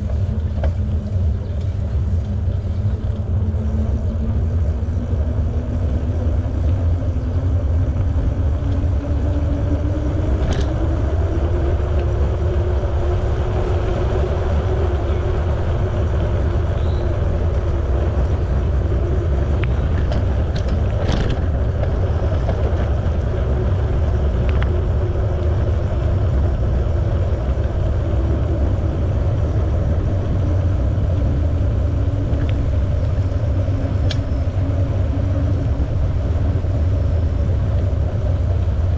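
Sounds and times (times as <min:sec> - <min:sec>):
bicycle tyre noise: 0:00.0 - 0:38.9
faint hum rising in pitch: 0:00.0 - 0:38.9
wind rumble on microphone: 0:00.0 - 0:38.9.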